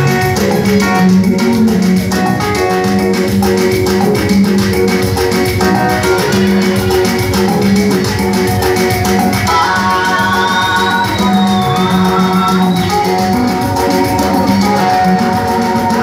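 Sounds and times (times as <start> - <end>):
upbeat guitar dance music: 0.0 - 16.0.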